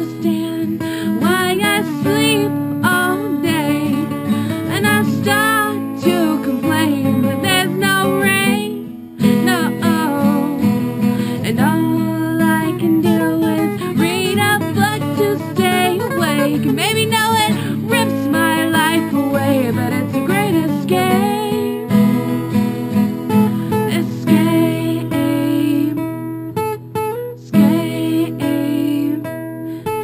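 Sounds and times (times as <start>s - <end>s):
person singing: 0.0s - 26.0s, 27.3s - 29.4s
strummed acoustic guitar: 0.0s - 30.0s.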